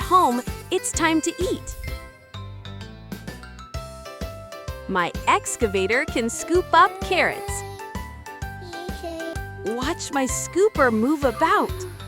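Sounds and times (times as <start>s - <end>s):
upbeat instrumental children's music: 0.0s - 12.0s.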